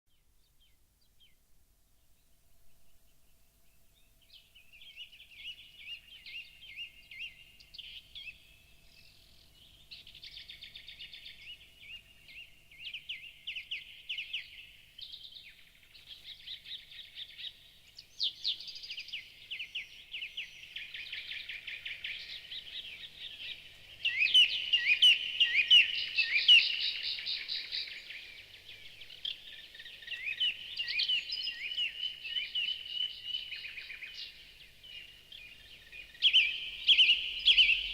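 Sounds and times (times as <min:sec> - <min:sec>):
songbirds chirping and trilling: 0:00.1 - 0:37.9.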